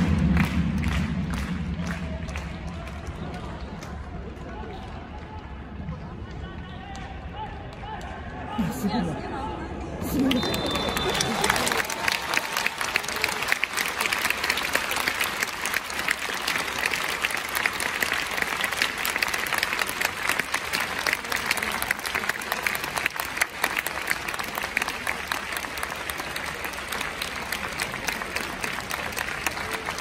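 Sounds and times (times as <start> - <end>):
stadium crowd applauding: 0.0 - 9.2, 10.0 - 30.0.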